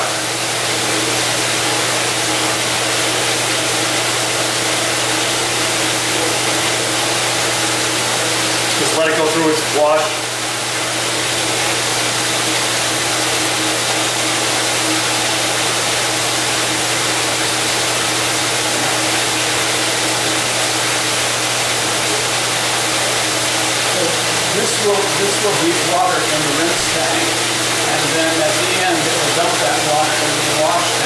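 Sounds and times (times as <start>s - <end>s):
low machine hum: 0.0s - 31.0s
water spraying in dishwasher: 0.0s - 31.0s.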